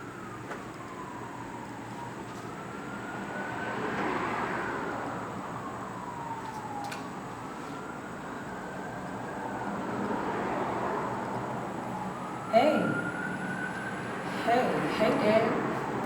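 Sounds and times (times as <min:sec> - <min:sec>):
emergency siren wailing: 0:00.0 - 0:16.0
traffic noise: 0:00.0 - 0:16.0.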